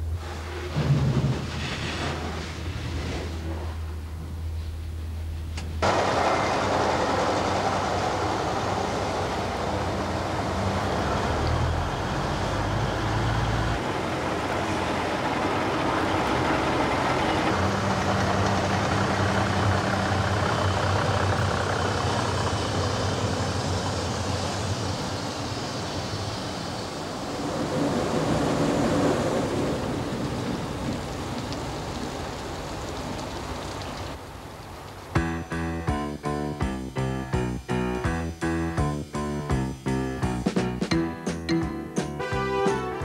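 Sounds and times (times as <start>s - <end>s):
train rumbling rattle: 0.0s - 34.2s, 35.1s - 42.2s.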